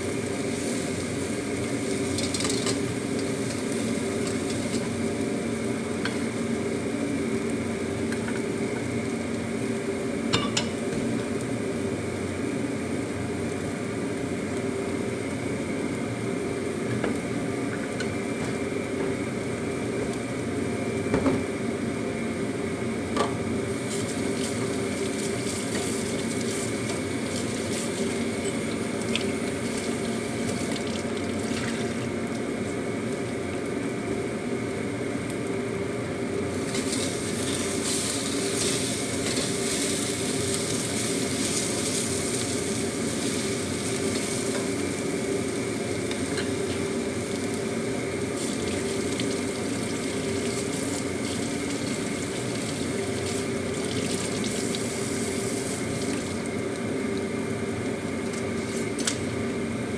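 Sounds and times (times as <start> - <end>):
food sizzling in a wok: 0.0 - 59.9
steady hum: 0.0 - 59.9.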